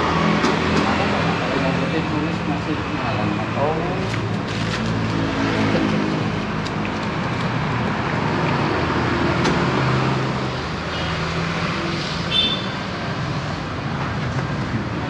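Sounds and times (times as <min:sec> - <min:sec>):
passing cars and motorbikes: 0:00.0 - 0:15.0.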